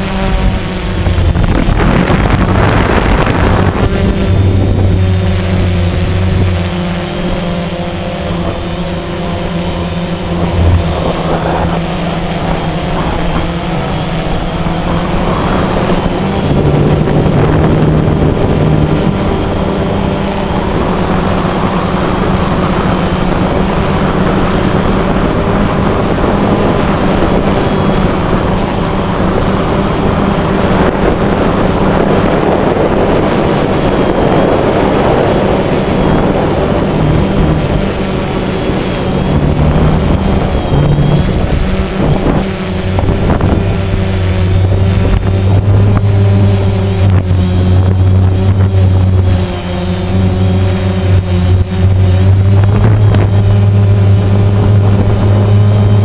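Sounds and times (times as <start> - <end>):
drone motors humming: 0.0 - 56.0
high-pitched whine: 0.0 - 56.0
rushing prop wash: 0.0 - 56.0.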